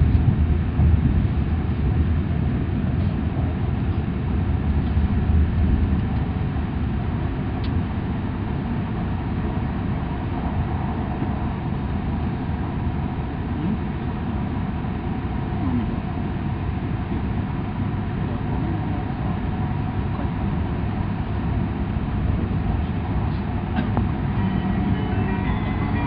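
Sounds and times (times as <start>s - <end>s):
train rumble and rolling noise: 0.0s - 26.0s.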